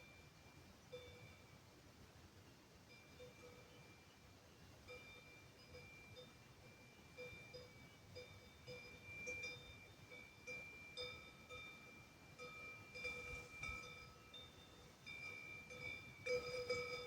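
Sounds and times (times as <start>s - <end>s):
cowbells clanking faintly: 0.0s - 17.0s.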